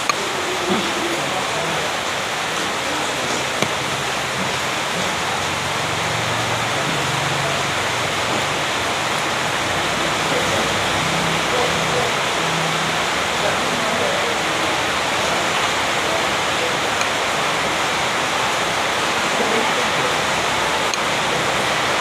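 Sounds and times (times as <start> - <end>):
loud rushing noise: 0.0 - 22.0.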